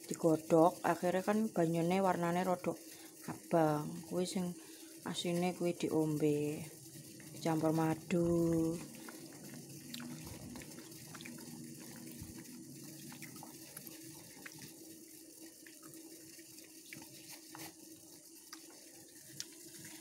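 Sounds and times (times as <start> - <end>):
gas stove hiss: 0.0 - 20.0
pot of water boiling: 0.0 - 20.0.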